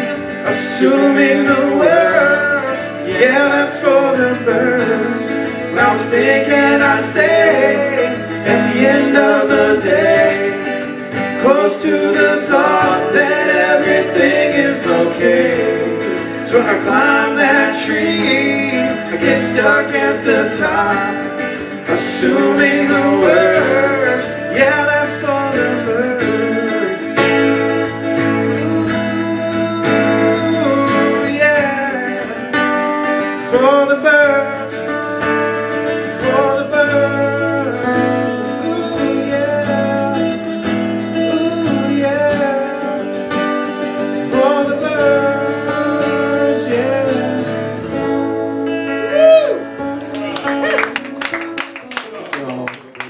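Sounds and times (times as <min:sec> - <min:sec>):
acoustic guitar music: 0:00.0 - 0:53.0.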